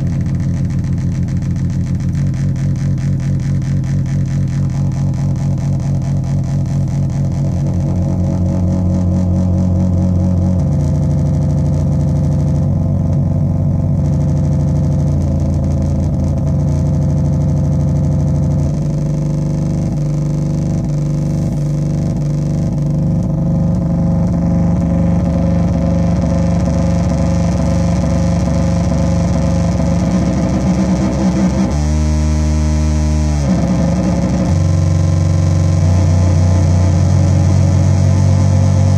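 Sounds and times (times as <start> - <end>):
distorted synthesizer drone: 0.0 - 38.9.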